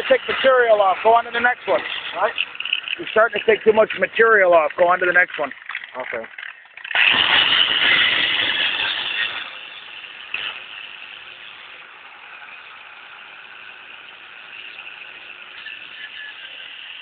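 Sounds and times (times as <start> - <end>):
power tool grinding metal: 0.0 - 17.0.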